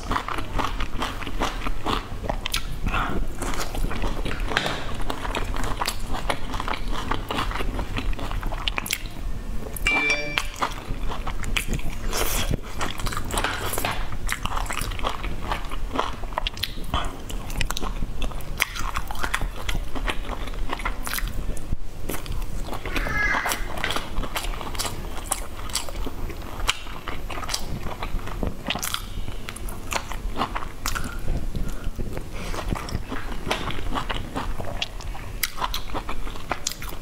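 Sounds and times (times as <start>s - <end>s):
person chewing food: 0.0s - 9.2s, 10.1s - 22.9s, 23.5s - 37.0s.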